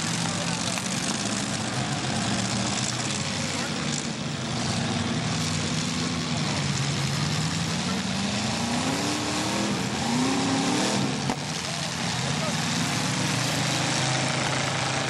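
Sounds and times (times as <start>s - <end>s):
car engines running: 0.0s - 15.0s
engine revving up: 0.0s - 15.0s.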